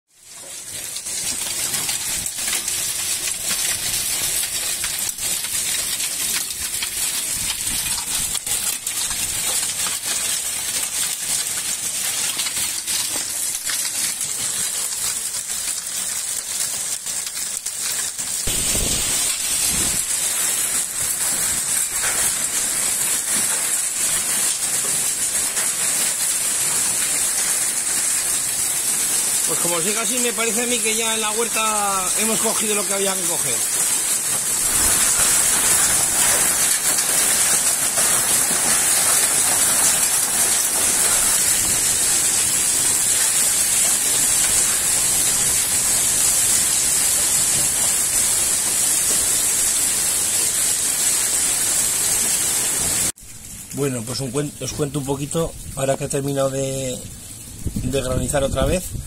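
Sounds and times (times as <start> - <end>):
heavy rain downpour: 0.1 - 59.0
hailstones striking roof: 0.2 - 57.8.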